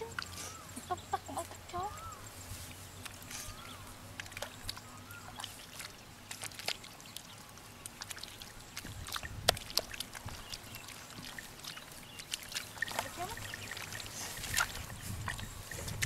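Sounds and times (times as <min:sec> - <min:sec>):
hands slapping wet mud: 0:03.0 - 0:16.0.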